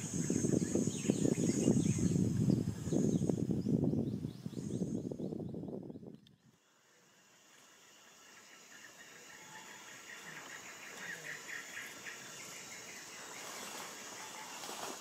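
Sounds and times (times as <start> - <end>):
rapid pulsing insect chirp: 0.0 - 15.0
steady insect hiss: 0.0 - 15.0.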